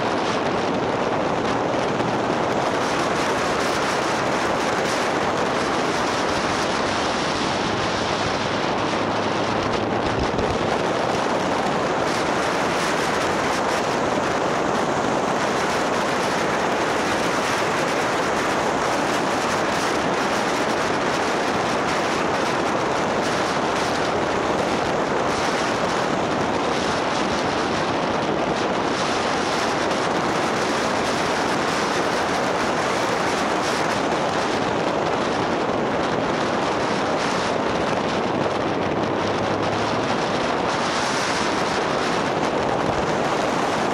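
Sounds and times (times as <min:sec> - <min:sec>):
motorbike road noise: 0:00.0 - 0:43.9
wind buffeting microphone: 0:00.0 - 0:43.9.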